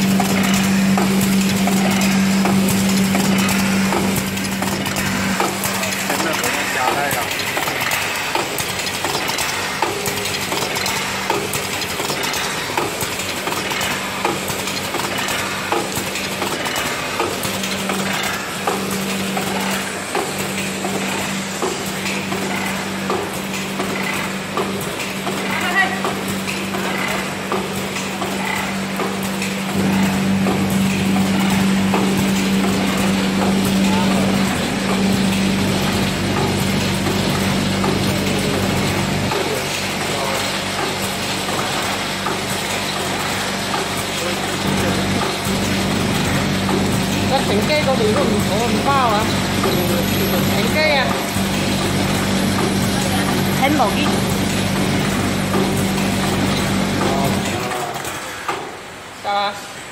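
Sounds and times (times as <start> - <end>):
sharp machine clack: 0.0 - 58.7
packing machine hum and rattle: 0.0 - 59.9.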